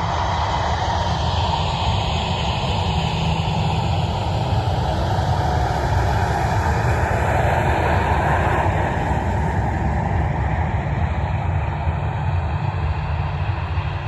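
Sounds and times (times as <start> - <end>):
distant jet engines: 0.0 - 14.0.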